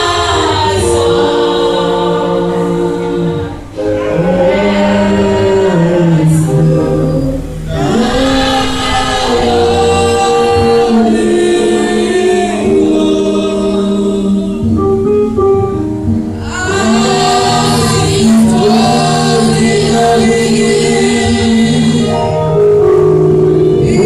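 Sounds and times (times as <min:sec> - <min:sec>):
choir singing: 0:00.0 - 0:14.8, 0:16.4 - 0:22.6.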